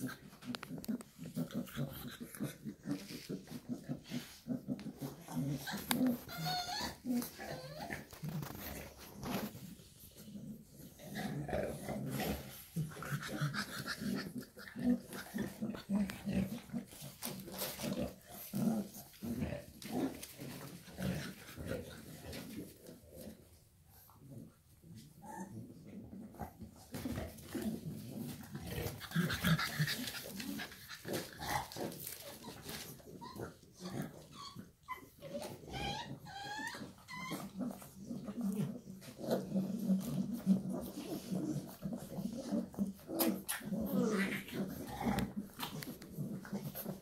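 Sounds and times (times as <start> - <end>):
puppy grunting: 0.0 - 23.5, 25.2 - 47.0.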